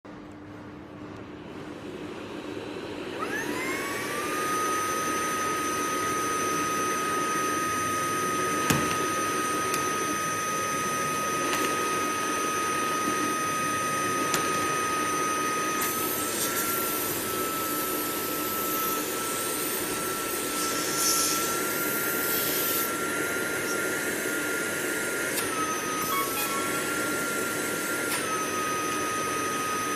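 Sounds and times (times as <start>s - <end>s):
vacuum motor whine: 1.3s - 29.9s.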